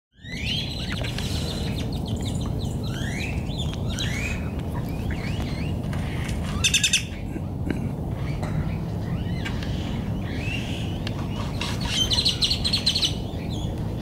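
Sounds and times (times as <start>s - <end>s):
birds whistling and chattering: 0.2s - 14.0s
steady low rumble: 0.4s - 14.0s.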